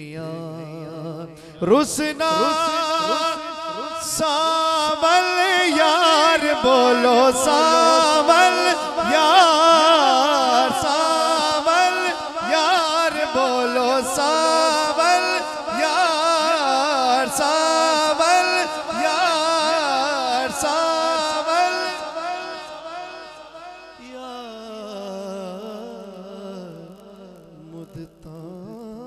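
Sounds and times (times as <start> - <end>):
man singing through pa: 0.0 - 29.0.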